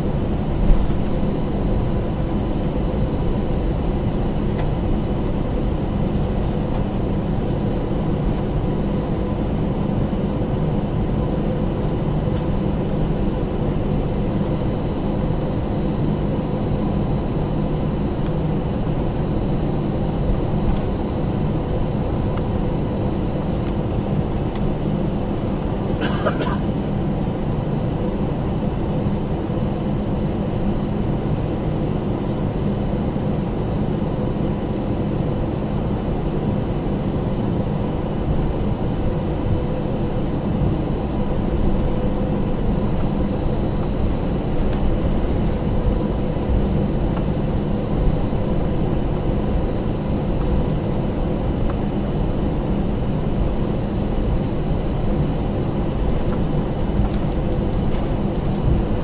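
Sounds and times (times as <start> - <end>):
aircraft cabin rumble and hum: 0.0 - 59.0.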